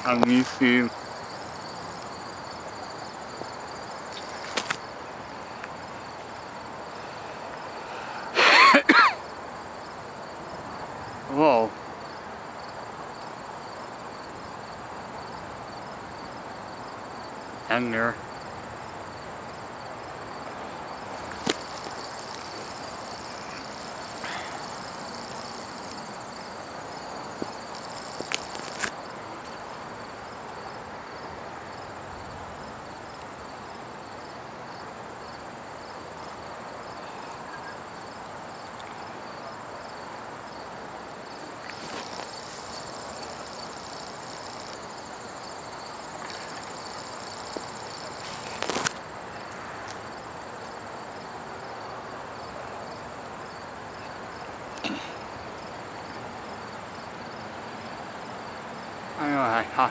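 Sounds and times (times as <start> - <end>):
insects chirping: 0.0 - 59.9
outdoor hiss: 0.0 - 59.9.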